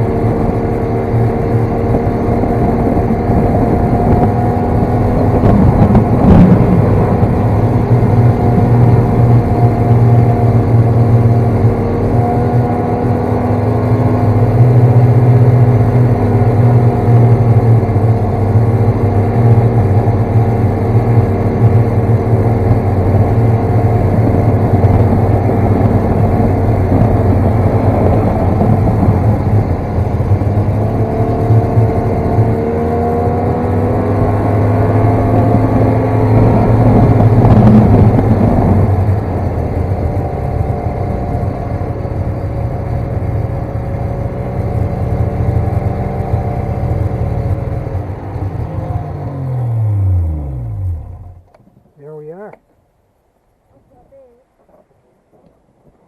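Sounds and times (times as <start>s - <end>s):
snowmobile engine running: 0.0s - 51.4s.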